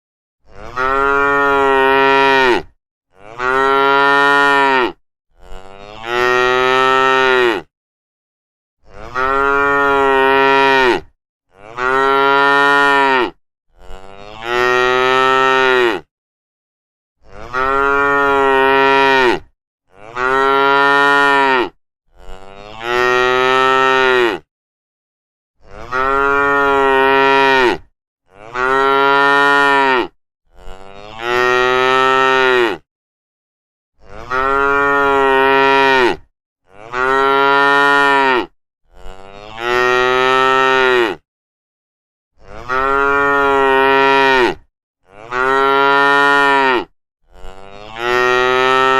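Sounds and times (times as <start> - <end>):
cow mooing: 0.4 - 7.7, 8.8 - 16.1, 17.2 - 24.5, 25.6 - 32.8, 34.0 - 41.2, 42.4 - 48.9.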